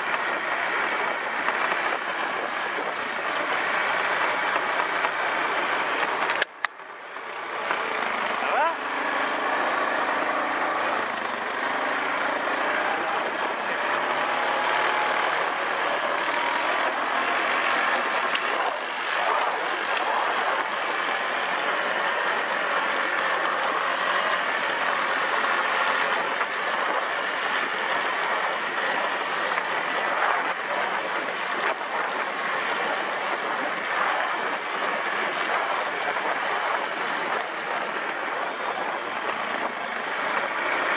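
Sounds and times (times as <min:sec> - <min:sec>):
atv engine running: 0:00.0 - 0:40.9
constant rushing noise: 0:00.0 - 0:40.9.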